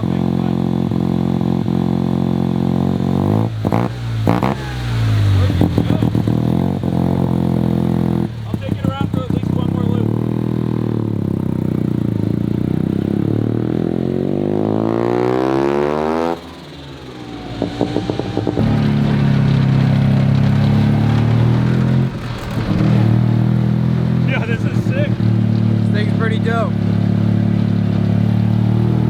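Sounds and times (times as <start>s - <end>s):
engine exhaust cracks: 0.0s - 14.4s, 16.3s - 29.0s
rotary engine revving: 0.0s - 29.0s.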